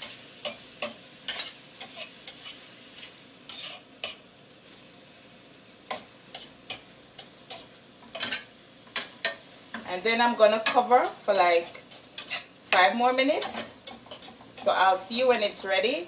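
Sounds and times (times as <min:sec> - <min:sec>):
metal utensil scraping skillet: 0:00.0 - 0:04.3, 0:05.8 - 0:09.4, 0:10.1 - 0:16.0
food sizzling: 0:00.0 - 0:16.0.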